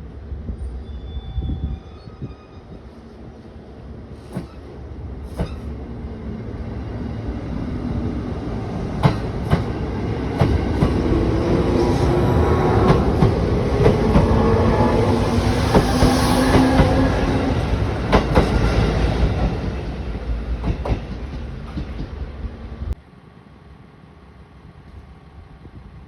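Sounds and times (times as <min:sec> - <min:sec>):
electric train approaching: 0:00.0 - 0:26.0.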